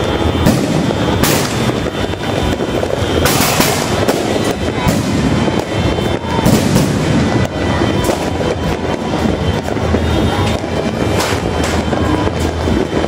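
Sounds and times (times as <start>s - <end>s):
fireworks and firecrackers banging: 0.0s - 13.0s.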